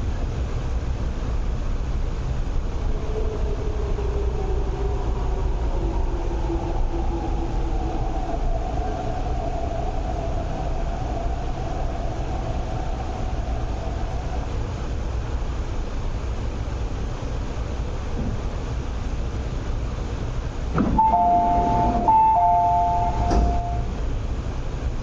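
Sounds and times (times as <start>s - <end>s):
electric train rumble and motor whine: 0.0s - 25.0s.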